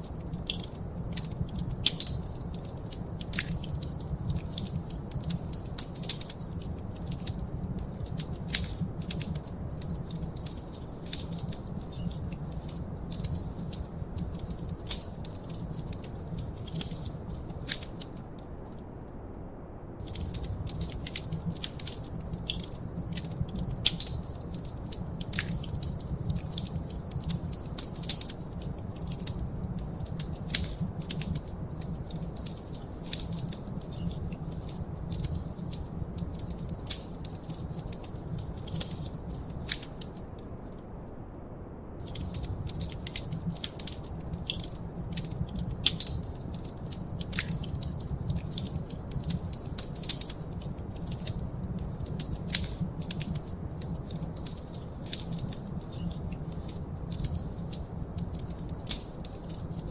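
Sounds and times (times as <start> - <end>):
wood fire crackling: 0.0 - 19.2, 20.0 - 41.2, 41.9 - 59.9.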